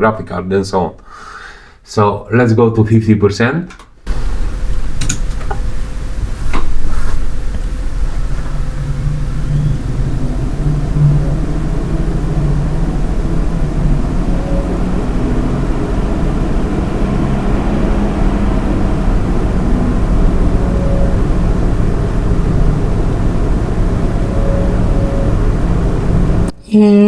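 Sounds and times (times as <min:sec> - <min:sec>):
faint fan whine: 0:03.7 - 0:27.0
computer fans rushing air: 0:04.1 - 0:26.6.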